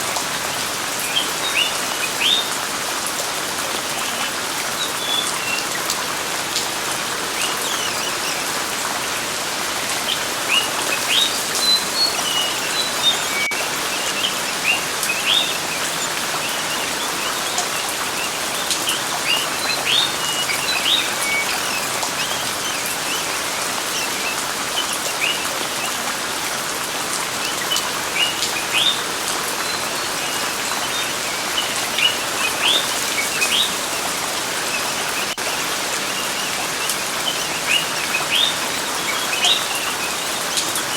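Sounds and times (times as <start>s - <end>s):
steady rain: 0.0s - 40.9s
small birds chirping: 0.2s - 2.6s, 3.8s - 40.9s.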